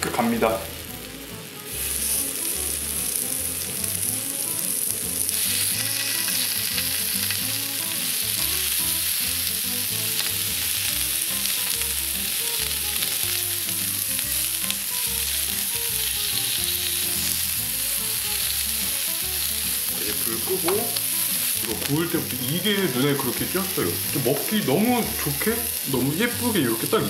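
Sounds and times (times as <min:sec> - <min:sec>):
beef sizzling on a griddle: 0:00.0 - 0:27.0.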